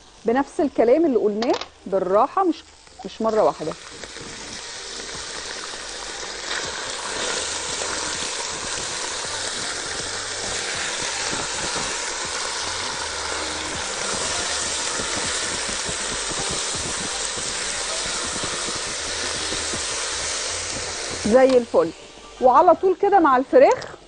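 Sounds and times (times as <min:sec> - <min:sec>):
chicken sizzling in oil: 0:00.0 - 0:23.6.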